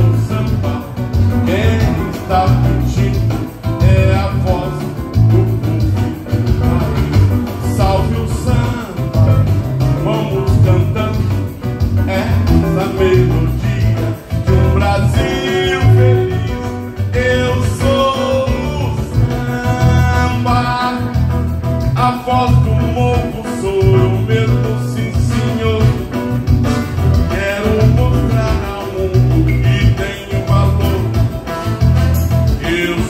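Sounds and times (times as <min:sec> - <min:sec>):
keyboard: 0:00.0 - 0:33.0
man singing into a microphone: 0:00.0 - 0:33.0
pulsing bass beat: 0:00.0 - 0:33.0.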